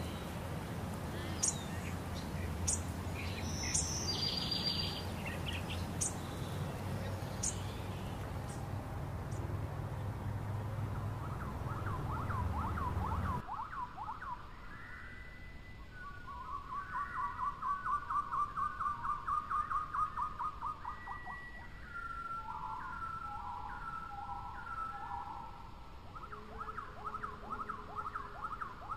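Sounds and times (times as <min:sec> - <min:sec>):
gliding bird calls: 0:00.0 - 0:28.9.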